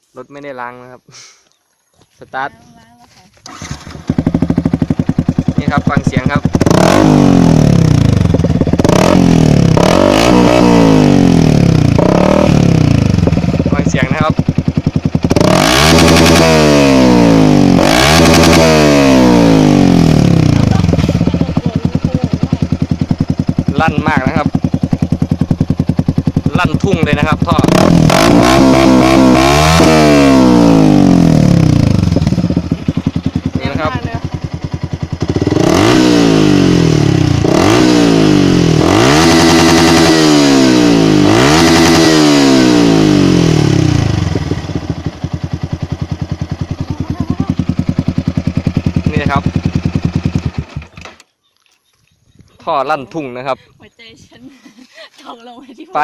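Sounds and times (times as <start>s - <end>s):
motorcycle engine revving and idling: 2.3s - 51.9s, 52.6s - 56.0s.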